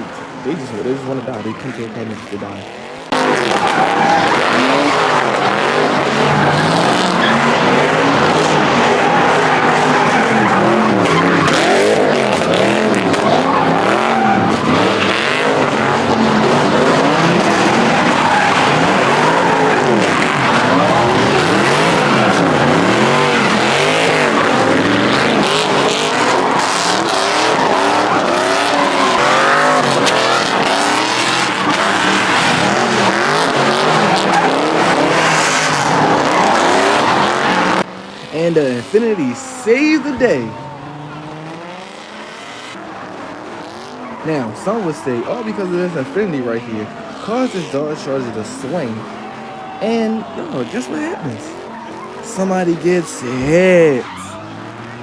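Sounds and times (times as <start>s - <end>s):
car engines revving: 0.0s - 55.0s
tires squealing and skidding: 0.0s - 55.0s.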